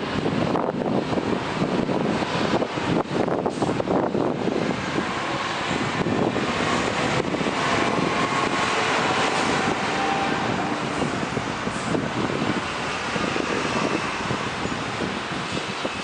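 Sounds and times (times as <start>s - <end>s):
heavy truck diesel engine rumble: 0.0s - 16.0s.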